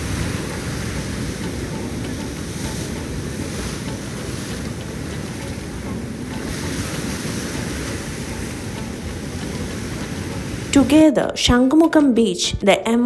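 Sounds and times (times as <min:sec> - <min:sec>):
surf washing on beach: 0:00.0 - 0:11.6
wind buffeting microphone: 0:00.0 - 0:12.7.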